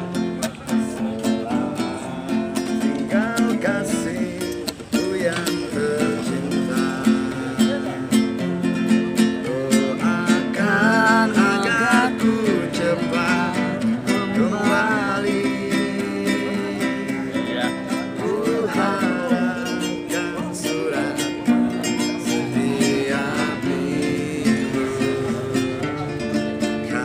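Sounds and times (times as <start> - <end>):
classical guitar strummed: 0.0 - 27.0
man singing: 0.0 - 27.0.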